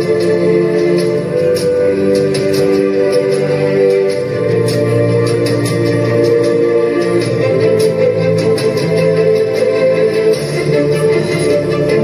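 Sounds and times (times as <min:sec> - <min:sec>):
music with long held notes: 0:00.0 - 0:12.0.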